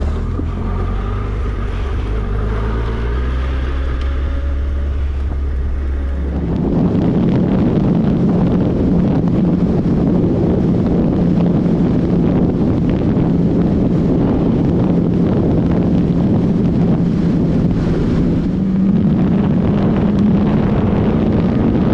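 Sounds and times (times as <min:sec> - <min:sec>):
motorcycle engine running: 0:00.0 - 0:21.9
wind noise on microphone: 0:00.0 - 0:21.9.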